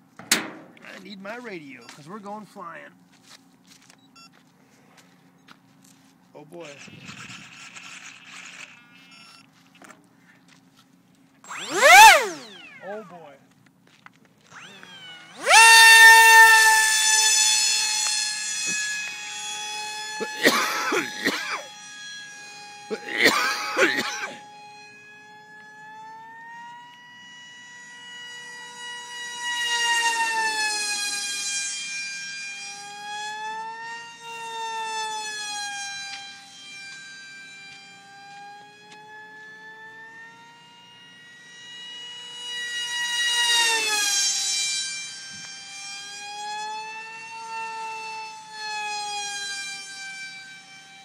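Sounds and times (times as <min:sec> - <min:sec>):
electric motor whining: 0:06.5 - 0:10.6, 0:11.4 - 0:51.0.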